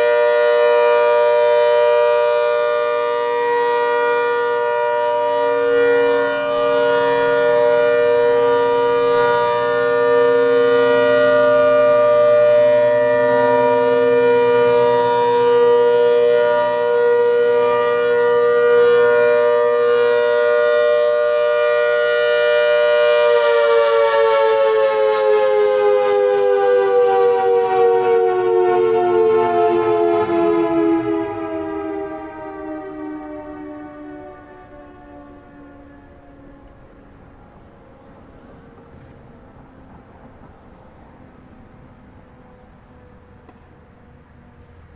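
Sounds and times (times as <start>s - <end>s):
warning siren two-note chord: 0.0s - 37.5s.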